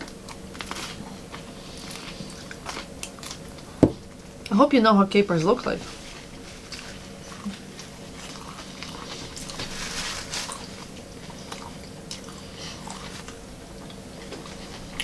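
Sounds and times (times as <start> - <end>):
people chewing food: 0.0 - 4.6, 5.8 - 15.0
faint steady hum: 0.0 - 15.0.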